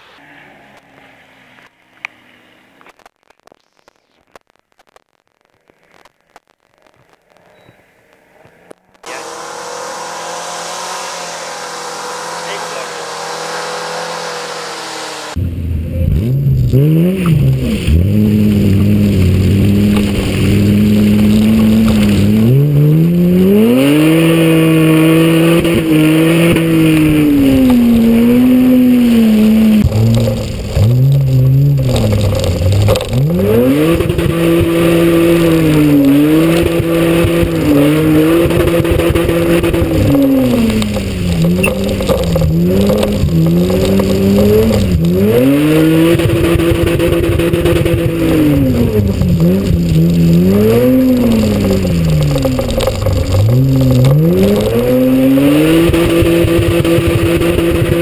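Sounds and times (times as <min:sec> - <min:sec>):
car engine revving: 0:07.2 - 0:58.0.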